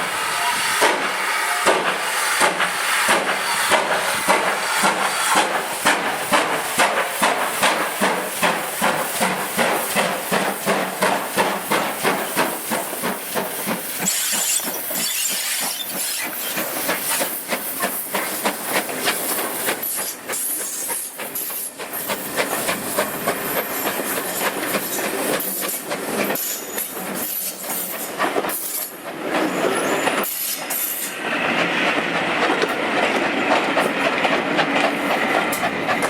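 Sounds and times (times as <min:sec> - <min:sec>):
train running: 0:00.0 - 0:36.0.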